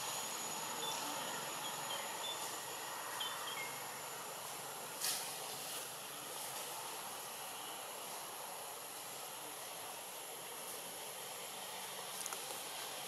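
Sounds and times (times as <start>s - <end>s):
steady hiss: 0.0s - 13.0s
thin high whine: 0.0s - 13.0s.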